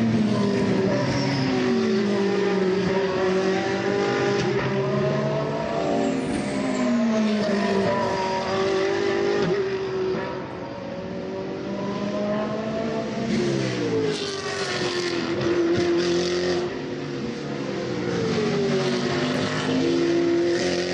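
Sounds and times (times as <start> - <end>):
race car engines: 0.0 - 20.9.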